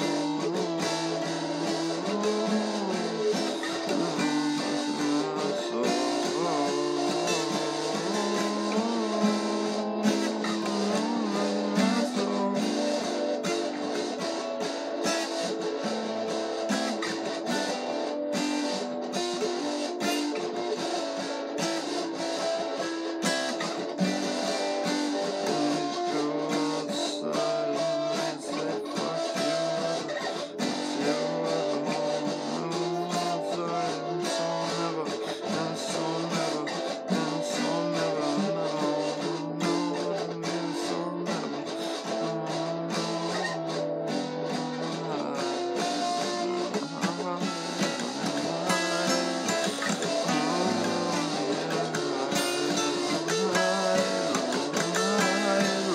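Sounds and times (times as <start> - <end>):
acoustic guitar playing: 0.0 - 55.9.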